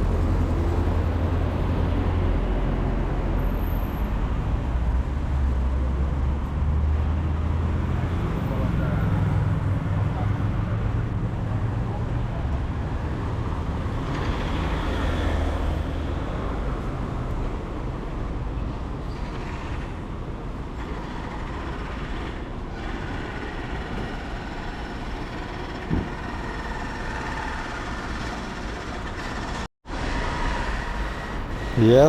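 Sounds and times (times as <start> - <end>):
vehicles passing on wet street: 0.0 - 32.0.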